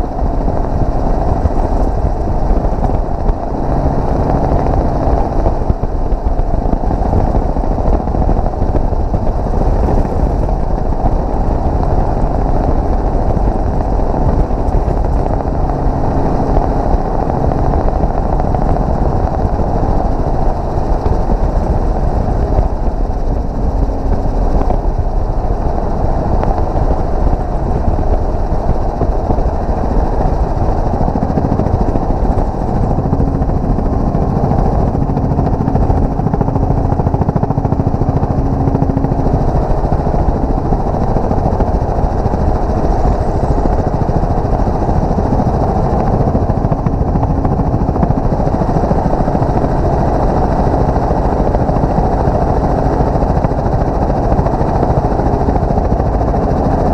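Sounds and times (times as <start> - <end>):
helicopter rotor and engine: 0.0 - 56.9.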